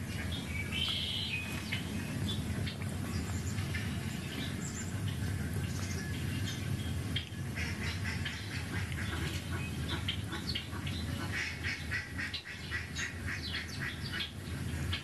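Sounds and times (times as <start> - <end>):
birds chirping through tv speakers: 0.0 - 15.0
low steady hum: 0.0 - 15.0.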